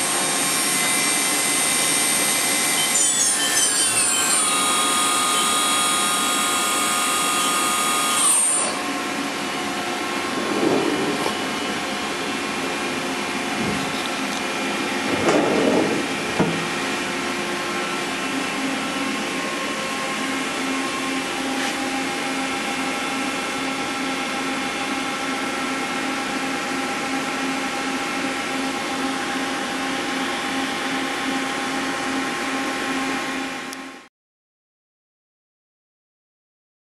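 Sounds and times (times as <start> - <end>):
machine spindle whine: 0.0 - 33.9.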